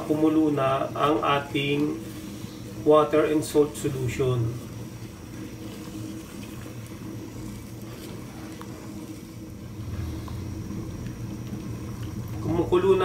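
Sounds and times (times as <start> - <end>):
water simmering in a pot: 0.0 - 13.0.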